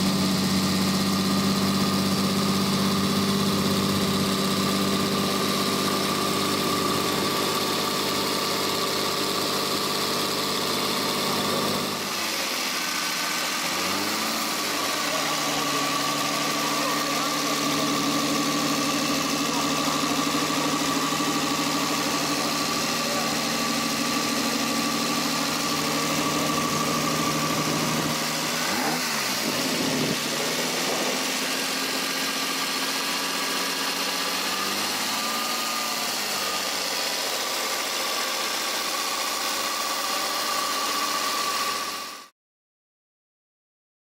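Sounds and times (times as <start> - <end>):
car engine idling: 0.0 - 42.2.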